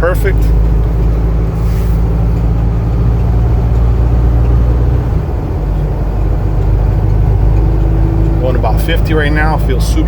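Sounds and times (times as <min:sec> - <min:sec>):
road noise: 0:00.0 - 0:10.0
truck engine drone: 0:00.0 - 0:10.0.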